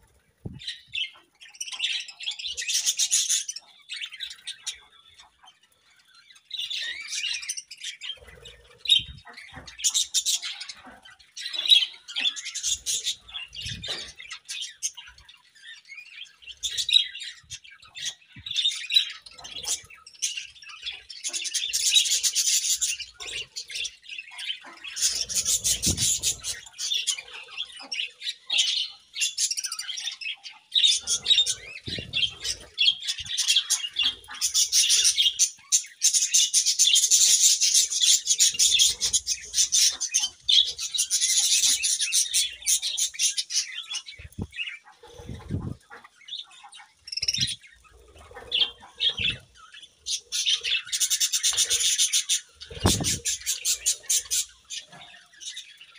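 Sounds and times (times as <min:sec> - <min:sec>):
budgerigars chirping and chattering: 0:00.0 - 0:55.9.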